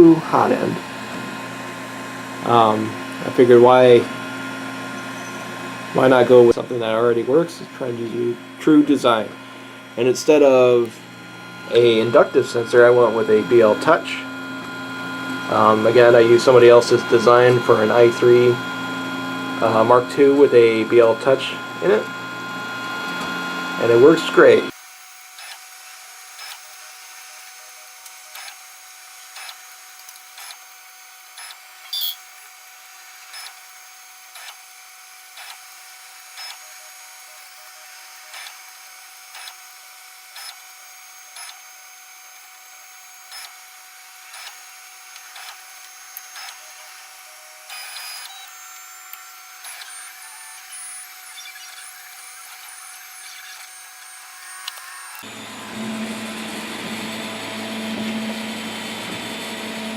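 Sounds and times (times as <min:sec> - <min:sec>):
stepper motors whining: 0:00.0 - 0:09.4, 0:10.0 - 0:59.9.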